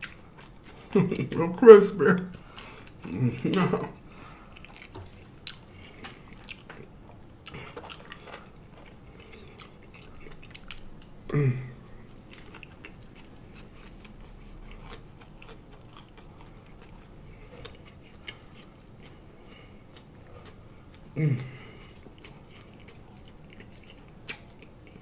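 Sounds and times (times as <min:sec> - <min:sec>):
chewing and lip-smacking: 0:00.0 - 0:01.0, 0:02.3 - 0:03.9, 0:04.5 - 0:11.2, 0:12.1 - 0:25.0.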